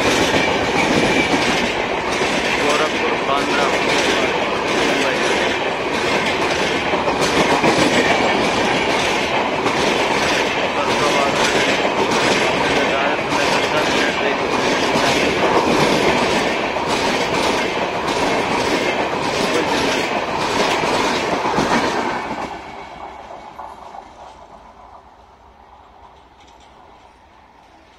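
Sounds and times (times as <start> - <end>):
train wheels clattering over rail joints: 0.0 - 27.9.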